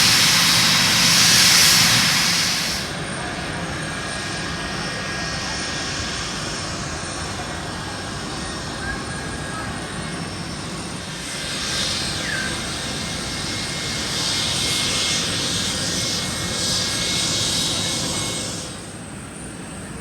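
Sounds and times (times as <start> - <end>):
airplane engine passing: 0.0 - 20.0.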